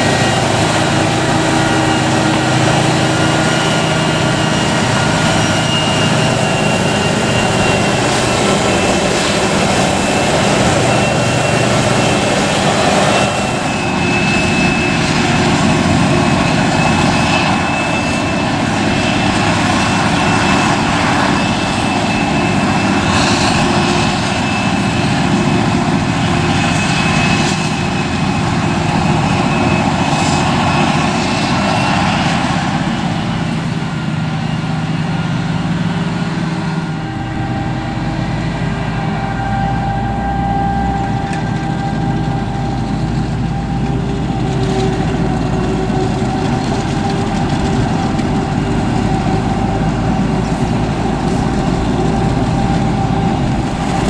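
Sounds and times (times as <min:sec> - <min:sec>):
forage harvester engine and chopping: 0:00.0 - 0:54.0
thin high whine: 0:00.0 - 0:54.0.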